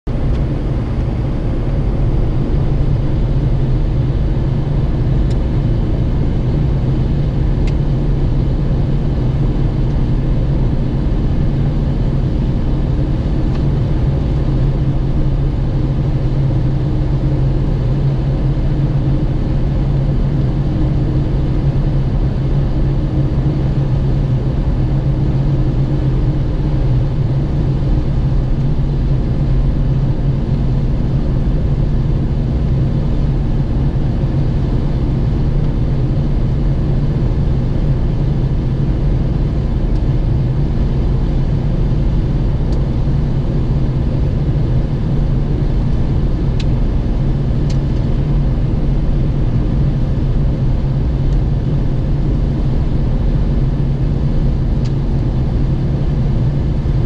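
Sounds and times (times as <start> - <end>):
engine and road noise drone: 0.1 - 57.0.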